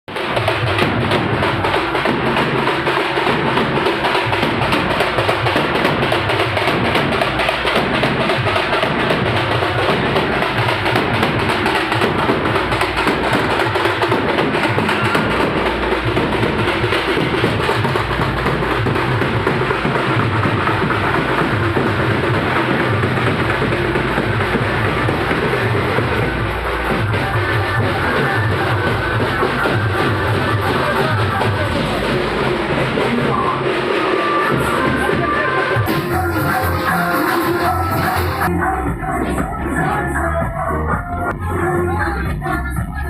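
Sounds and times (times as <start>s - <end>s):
drum-heavy music: 0.1s - 43.0s.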